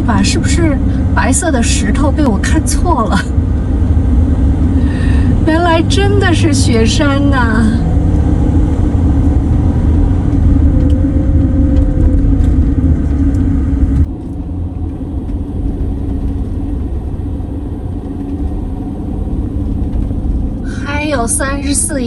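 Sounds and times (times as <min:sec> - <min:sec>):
engine and road noise rumble: 0:00.0 - 0:22.0.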